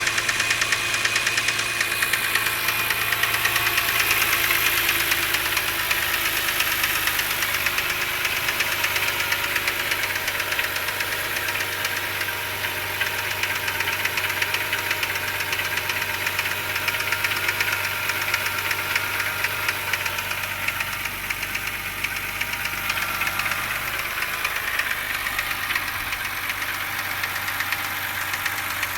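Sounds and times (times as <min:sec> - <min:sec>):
car engine knocking: 0:00.0 - 0:28.9.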